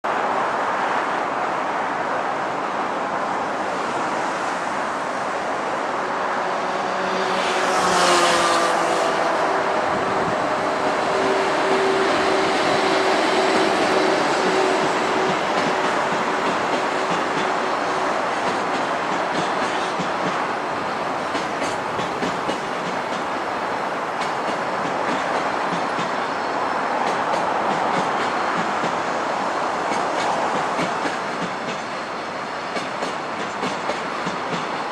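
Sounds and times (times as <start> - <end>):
electric locomotive humming: 3.2 - 34.9.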